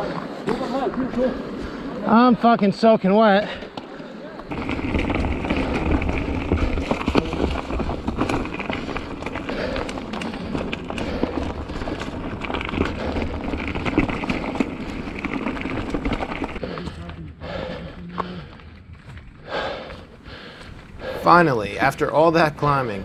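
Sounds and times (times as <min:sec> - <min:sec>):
bike rattling over rough trail: 0:04.2 - 0:23.0.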